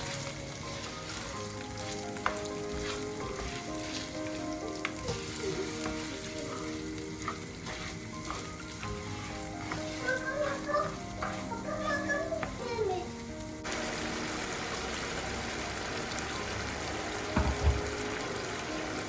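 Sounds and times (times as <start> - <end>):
food sizzling in a pan: 0.0 - 19.0
soft background music: 0.0 - 19.0.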